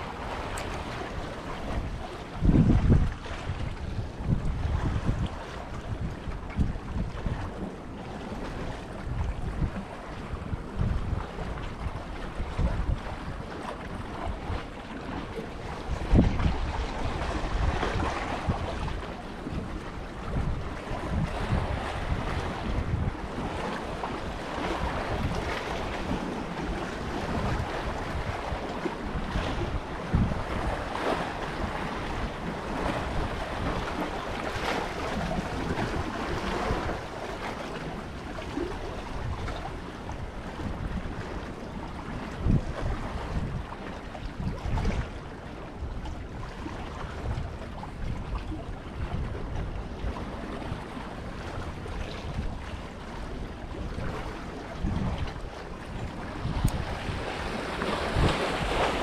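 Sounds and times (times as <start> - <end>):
sea waves: 0.0 - 59.0
wind buffeting microphone: 0.0 - 59.0.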